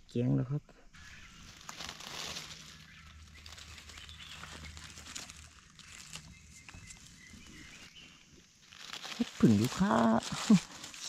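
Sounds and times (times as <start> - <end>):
hands raking dry leaves: 1.0 - 11.0.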